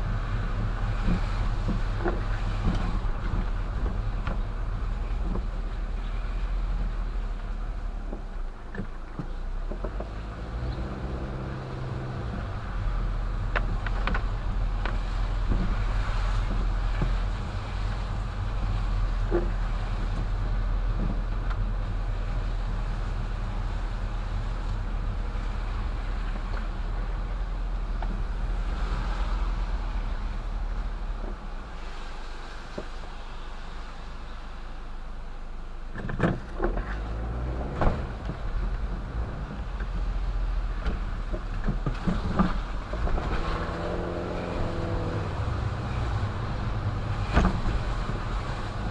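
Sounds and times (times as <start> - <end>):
engine and tyres rumbling: 0.0 - 48.9
tyres hissing on wet road: 0.0 - 48.9.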